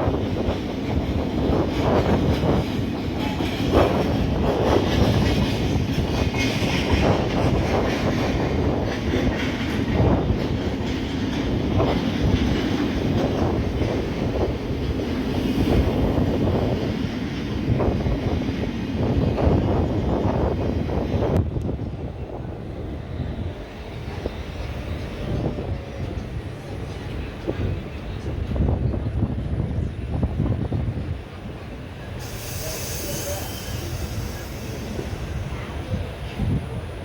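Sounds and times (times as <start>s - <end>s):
train wheels clattering on rails: 0.0s - 22.1s, 23.5s - 37.0s.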